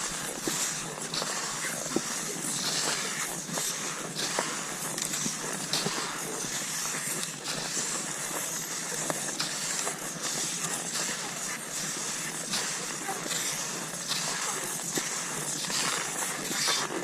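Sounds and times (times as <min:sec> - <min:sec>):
skis swishing over snow: 0:00.0 - 0:17.0.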